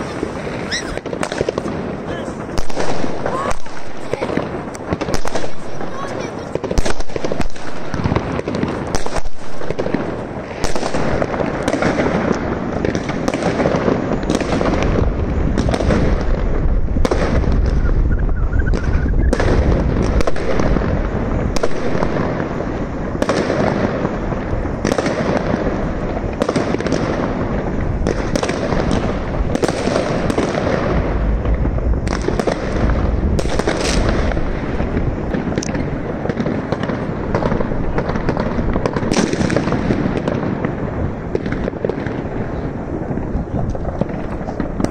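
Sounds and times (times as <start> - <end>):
fireworks rumbling and crackling: 0.0 - 44.9
sharp firework bangs: 0.0 - 44.9.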